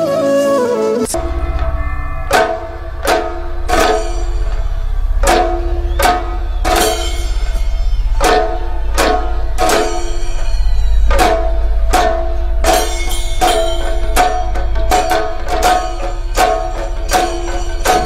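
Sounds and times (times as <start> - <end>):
held synth tones: 0.8 - 15.5
deep bass hum: 1.1 - 18.0
heavy drum beat: 1.1 - 18.0.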